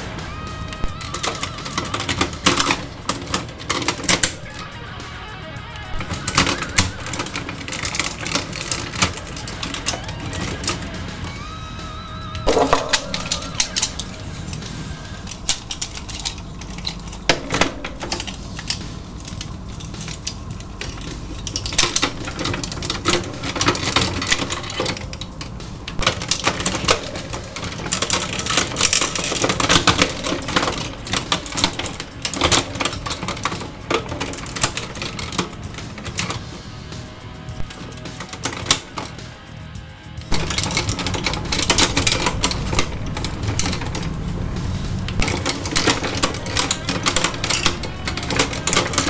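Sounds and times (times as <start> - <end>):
plastic toy parts clicking: 0.0 - 39.6, 40.2 - 49.0.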